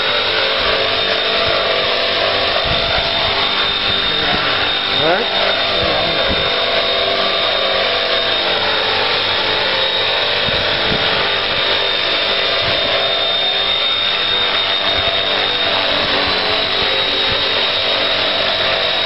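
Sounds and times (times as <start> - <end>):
model helicopter motor whine: 0.0 - 19.0.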